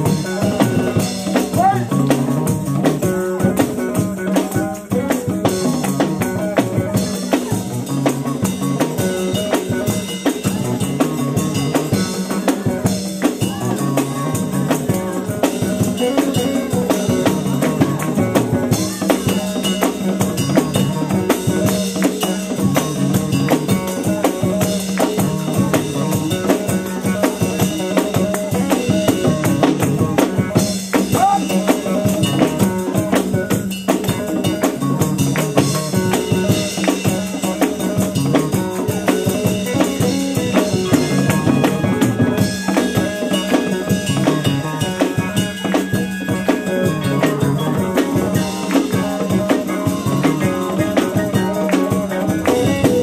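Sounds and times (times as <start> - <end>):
drum kit beat: 0.0 - 53.0
live gospel band music: 0.0 - 53.0.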